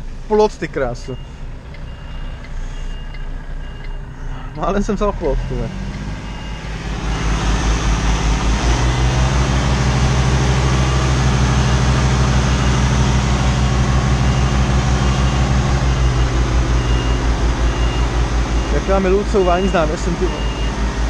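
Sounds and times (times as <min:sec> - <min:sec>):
diesel truck engine rumbling: 0:00.0 - 0:21.0.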